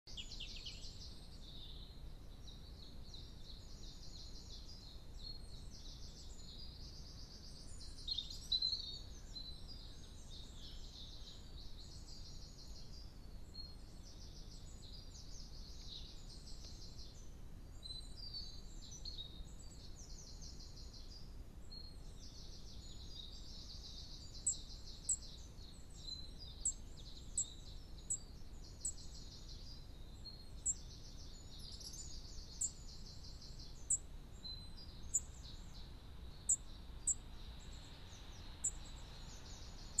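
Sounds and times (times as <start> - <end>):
songbirds trilling: 0.0 - 40.0.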